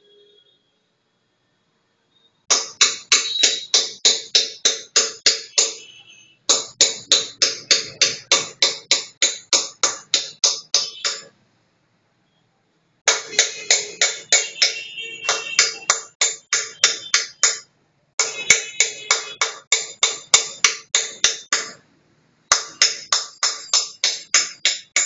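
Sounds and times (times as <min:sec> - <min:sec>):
rhythmic tapping: 0:02.5 - 0:11.3, 0:13.1 - 0:21.8, 0:22.5 - 0:25.0.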